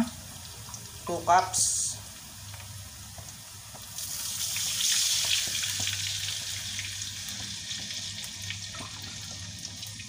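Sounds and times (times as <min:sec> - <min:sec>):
water sizzling in a hot wok: 0:00.0 - 0:10.0.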